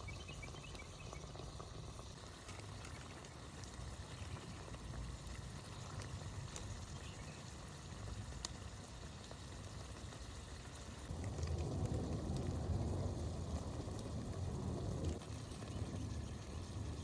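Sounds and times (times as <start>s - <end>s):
fire popping: 0.0s - 17.0s
wood fire crackling: 0.0s - 17.0s.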